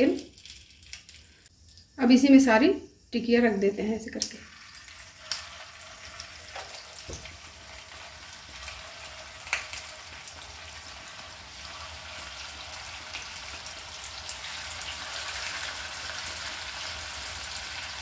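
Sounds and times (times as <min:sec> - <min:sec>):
patties sizzling in oil: 0:00.0 - 0:02.2, 0:04.0 - 0:18.0.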